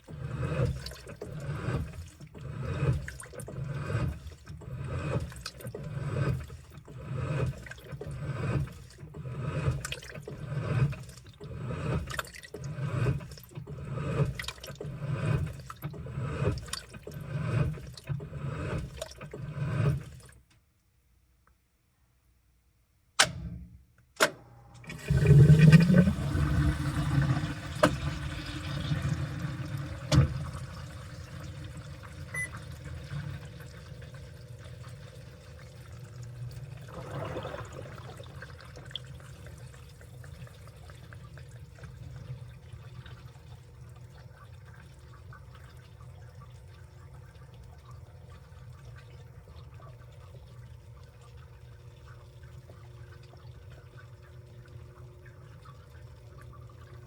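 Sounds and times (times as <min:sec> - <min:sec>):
water rushing into drum: 0:00.0 - 0:20.4, 0:24.8 - 0:57.0.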